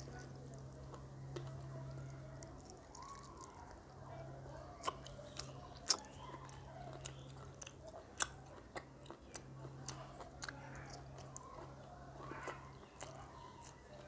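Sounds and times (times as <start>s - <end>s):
chewing and biting food: 0.0s - 14.0s.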